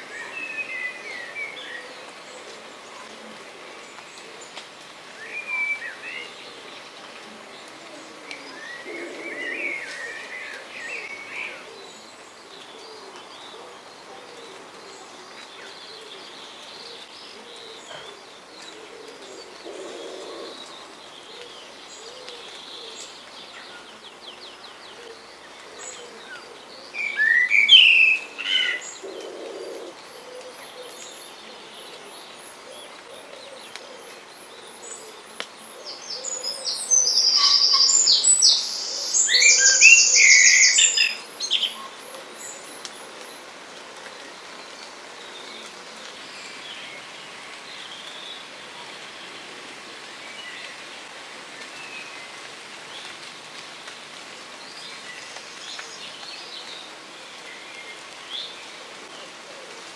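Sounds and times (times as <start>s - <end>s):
birdsong: 5.2s - 53.2s.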